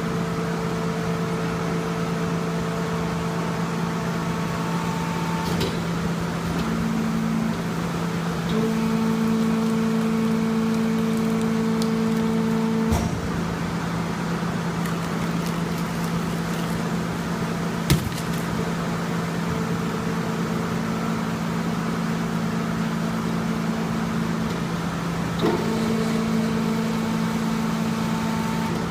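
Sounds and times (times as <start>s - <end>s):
baling press machine hum: 0.0s - 28.9s.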